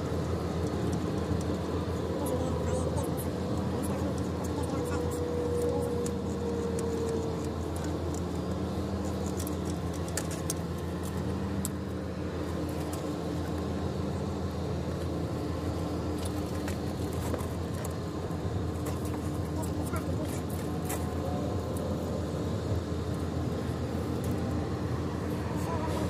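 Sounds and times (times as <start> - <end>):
low engine hum: 0.0 - 26.0.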